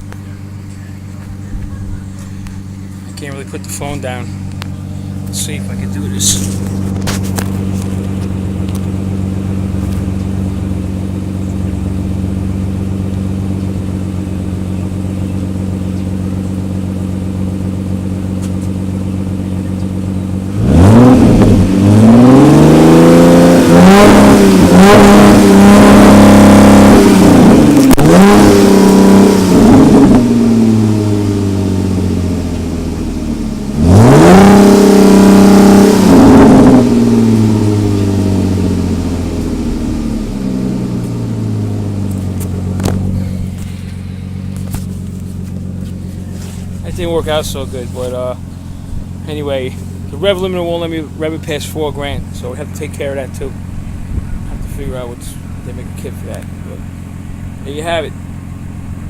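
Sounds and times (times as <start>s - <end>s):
car engine idling: 0.0s - 59.0s
car engine revving: 0.0s - 59.0s.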